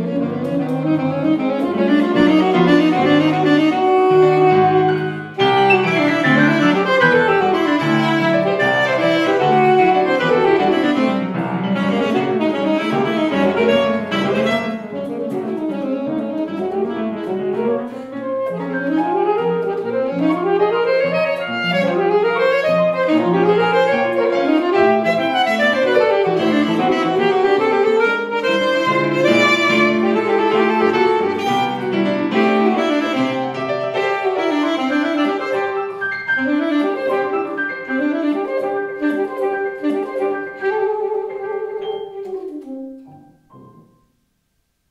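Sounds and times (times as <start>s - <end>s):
saxophone: 0.0s - 44.2s
grand piano: 0.0s - 44.9s.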